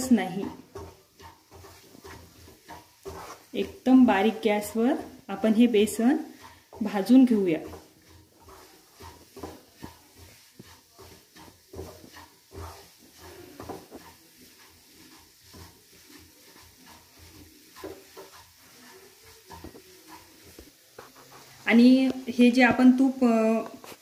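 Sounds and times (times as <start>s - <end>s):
wooden spatula scraping pan: 0.0s - 24.0s.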